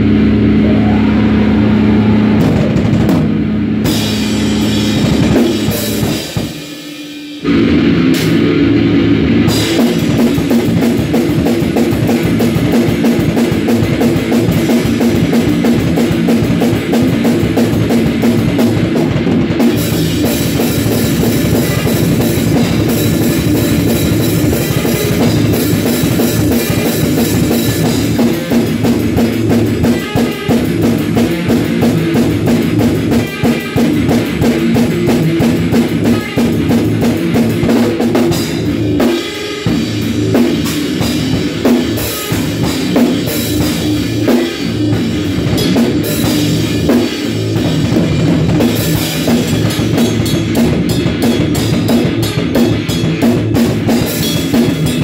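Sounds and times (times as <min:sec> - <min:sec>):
drum kit rock groove: 0:00.0 - 0:55.0.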